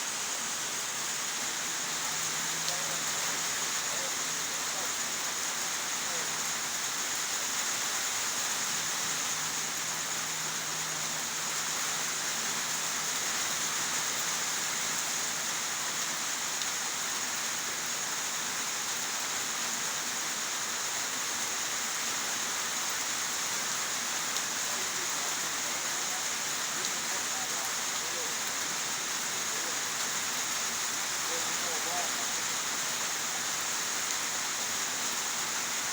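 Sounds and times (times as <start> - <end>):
steady rain hissing: 0.0 - 35.9.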